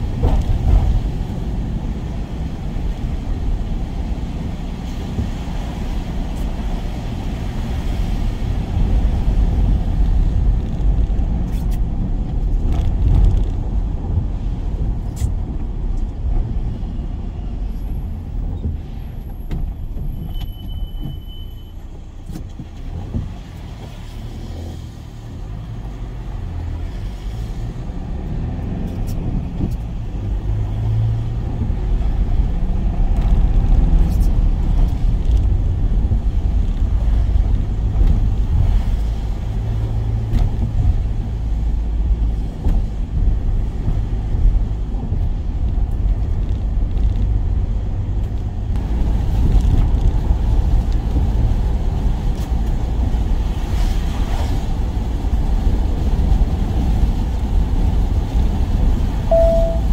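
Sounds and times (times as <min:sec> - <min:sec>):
van engine and road noise: 0:00.0 - 0:59.9.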